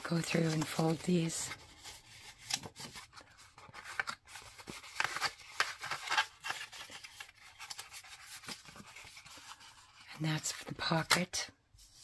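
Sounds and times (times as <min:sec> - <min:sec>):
paper rustling and scraping: 0:00.0 - 0:12.0.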